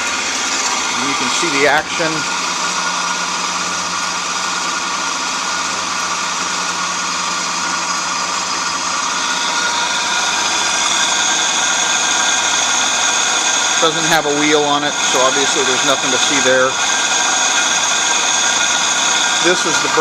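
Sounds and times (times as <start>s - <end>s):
machine motor whining: 0.0s - 20.0s.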